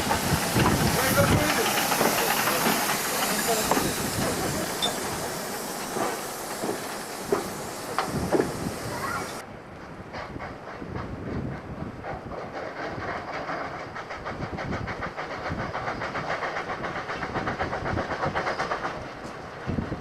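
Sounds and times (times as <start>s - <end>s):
steam train running past: 0.0s - 20.0s.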